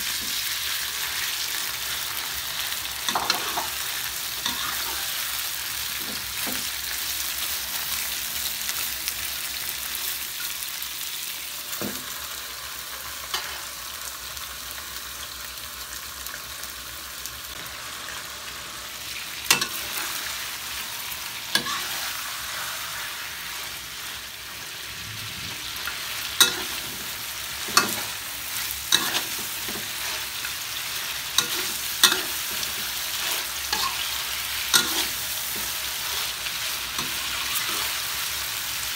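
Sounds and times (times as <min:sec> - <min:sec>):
meat sizzling in oil: 0:00.0 - 0:38.9.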